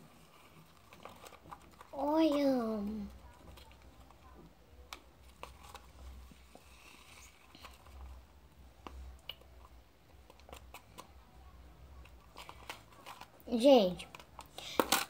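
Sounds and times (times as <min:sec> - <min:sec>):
handling clicks and rustles: 0:00.0 - 0:15.0.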